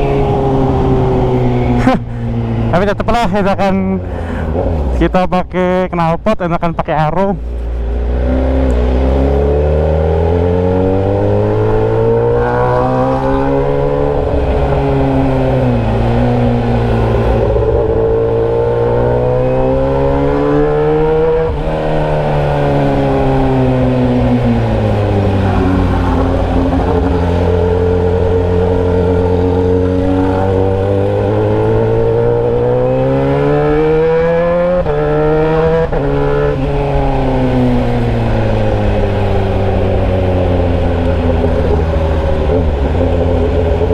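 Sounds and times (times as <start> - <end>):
loud motorcycle engine revving: 7.8 - 43.9.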